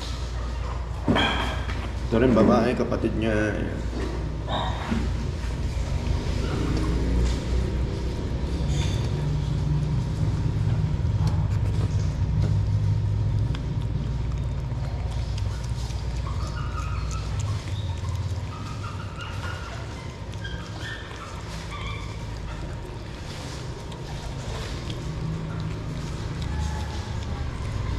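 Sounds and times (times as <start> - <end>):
low motor rumble: 3.0 - 27.9
puppy chewing clicks: 4.4 - 27.9.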